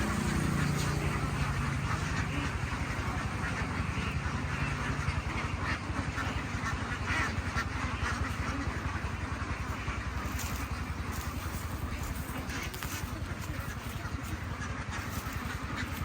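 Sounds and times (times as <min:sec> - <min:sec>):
ducks quacking: 0:00.0 - 0:16.0
low engine hum: 0:00.0 - 0:16.0.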